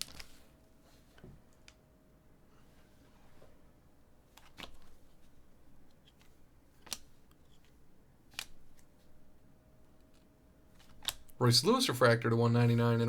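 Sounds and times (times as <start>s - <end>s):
light rustling of cards: 0.0s - 1.8s, 2.5s - 11.4s.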